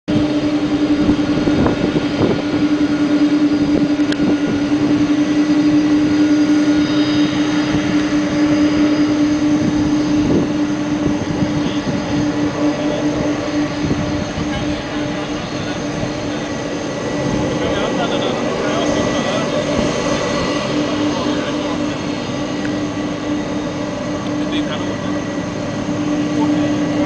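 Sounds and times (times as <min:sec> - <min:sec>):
jet engines running: 0:00.1 - 0:27.0.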